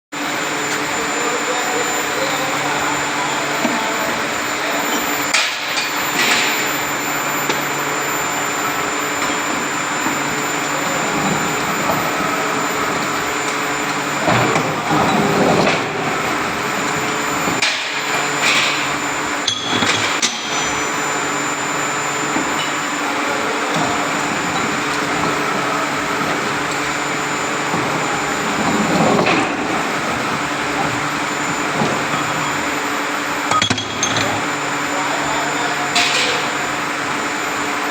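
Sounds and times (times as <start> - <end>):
forging press drone: 0.2 - 37.9.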